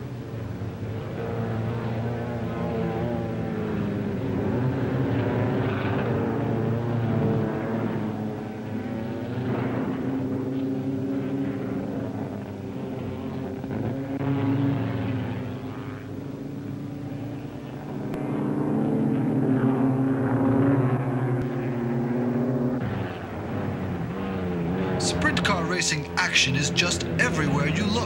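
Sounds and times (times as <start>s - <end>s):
racing car engines: 0.0s - 28.0s.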